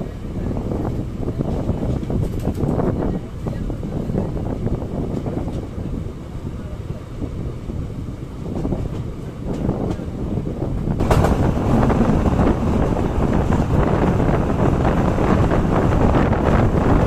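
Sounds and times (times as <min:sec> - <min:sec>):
train wheels rumbling on track: 0:00.0 - 0:17.0
wind buffeting microphone: 0:00.0 - 0:17.0.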